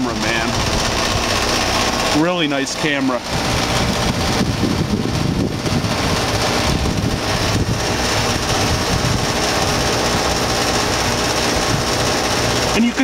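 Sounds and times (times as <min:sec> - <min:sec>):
compressor hum: 0:00.0 - 0:13.0
condenser fan rushing: 0:00.0 - 0:13.0.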